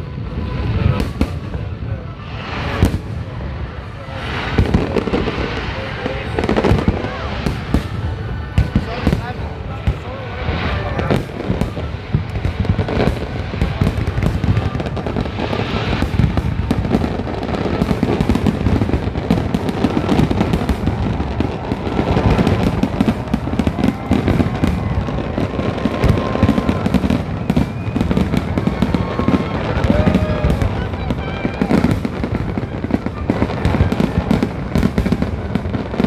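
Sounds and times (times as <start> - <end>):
fireworks booming and crackling: 0.0 - 36.0.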